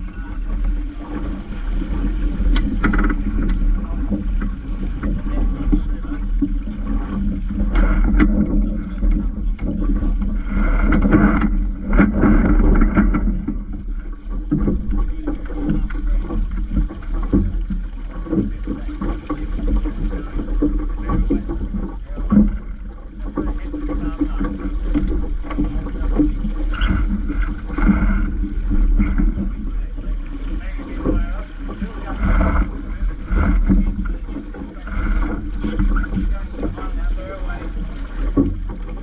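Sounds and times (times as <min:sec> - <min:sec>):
water rushing along hull: 0:00.0 - 0:39.0
wind buffeting microphone: 0:00.0 - 0:39.0.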